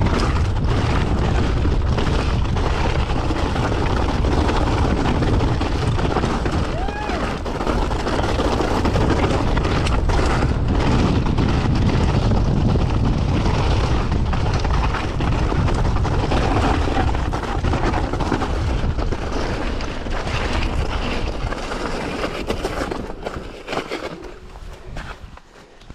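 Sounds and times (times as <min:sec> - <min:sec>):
tyres crunching over loose rock: 0:00.0 - 0:25.5
bike rattling: 0:00.0 - 0:25.8
wind rumble on microphone: 0:00.0 - 0:25.9.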